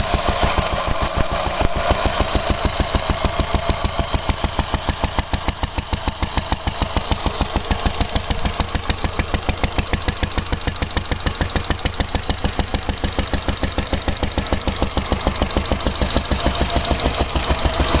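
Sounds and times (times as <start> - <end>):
stationary engine running: 0.0 - 18.0.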